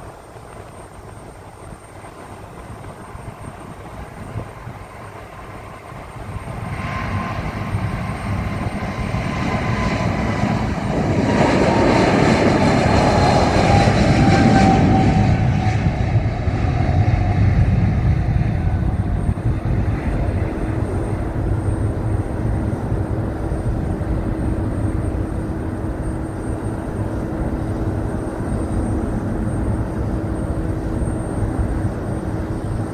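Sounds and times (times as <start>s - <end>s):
airplane flying past: 2.1s - 32.9s.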